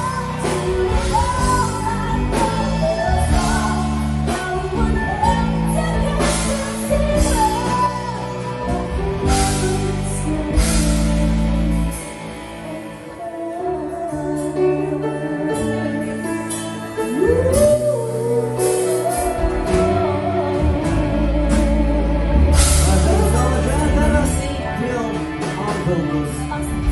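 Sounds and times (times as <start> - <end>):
instrumental backing with bass: 0.0 - 26.9
person singing: 0.0 - 26.9.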